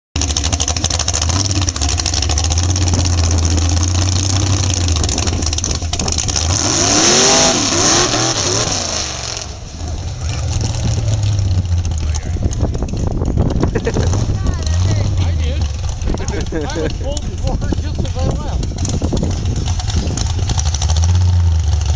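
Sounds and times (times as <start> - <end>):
truck engine revving: 0.2 - 21.9.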